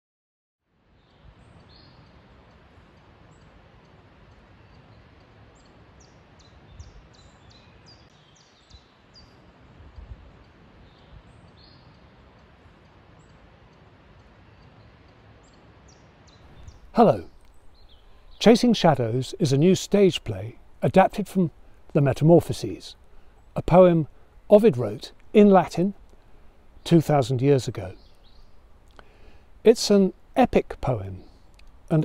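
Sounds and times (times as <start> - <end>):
small birds chirping: 0.9 - 2.3, 4.4 - 9.4, 10.7 - 12.4, 14.2 - 32.0.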